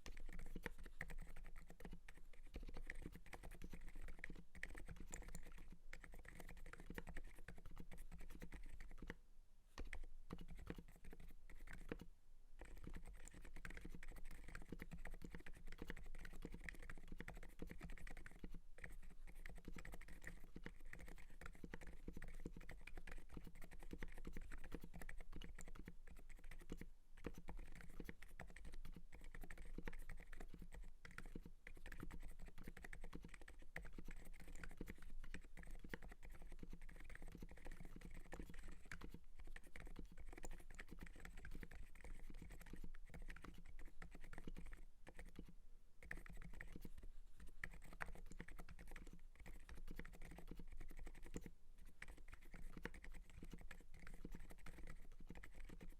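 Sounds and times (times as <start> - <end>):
mechanical keyboard typing: 0.0 - 9.2, 9.8 - 55.9.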